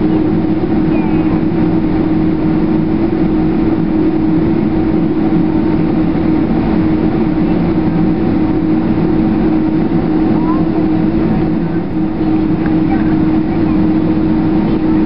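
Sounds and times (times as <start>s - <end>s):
jet engines idling in cabin: 0.0s - 15.0s.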